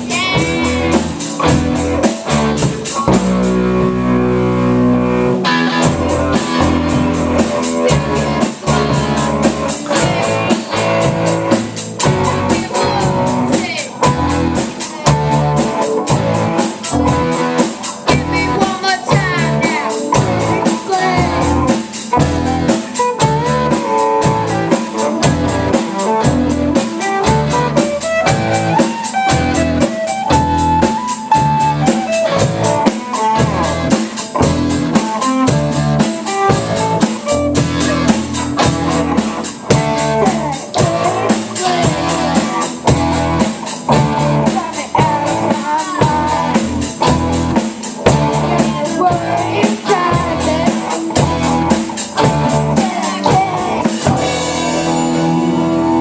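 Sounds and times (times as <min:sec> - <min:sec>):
lead guitar line: 0:00.0 - 0:56.0
rock band playing live: 0:00.0 - 0:56.0.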